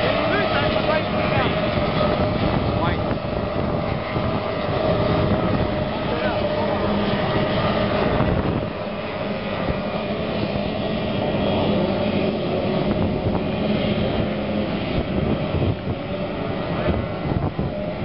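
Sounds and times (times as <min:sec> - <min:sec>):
racing powerboat engines droning: 0:00.0 - 0:18.0.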